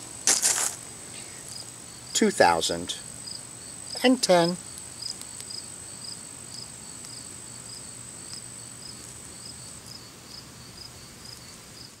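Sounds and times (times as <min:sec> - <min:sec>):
insect chirping: 0:00.0 - 0:12.0
insect trilling: 0:00.3 - 0:11.9.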